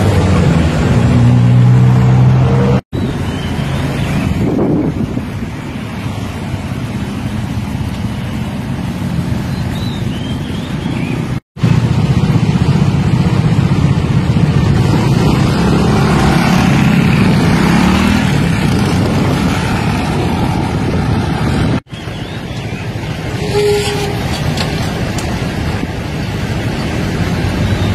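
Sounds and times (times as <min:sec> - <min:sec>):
car engines: 0:00.0 - 0:27.9
motorcycle engines: 0:00.0 - 0:27.9.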